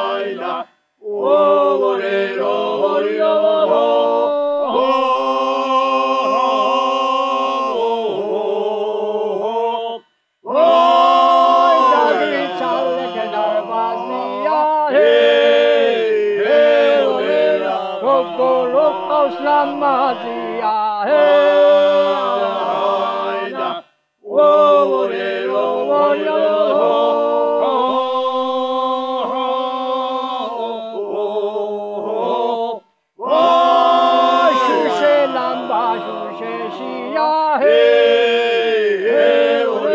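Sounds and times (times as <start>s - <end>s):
men singing a cappella: 0.0s - 39.9s.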